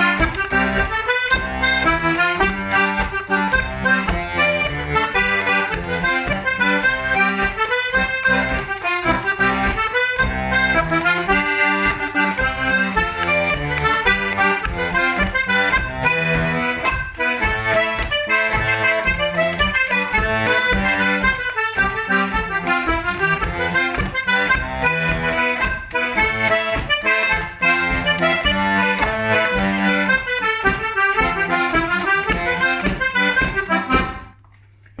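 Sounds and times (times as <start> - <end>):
button accordion playing dance tune: 0.0 - 34.4.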